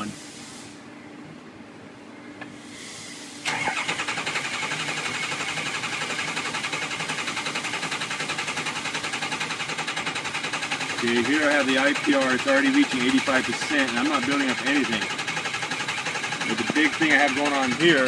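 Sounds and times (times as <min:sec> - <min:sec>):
diesel engine cranking: 0:03.4 - 0:18.0.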